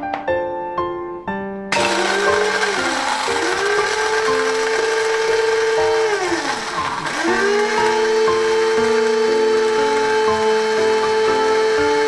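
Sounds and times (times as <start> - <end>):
coffee grinder motor whining: 1.7 - 12.0.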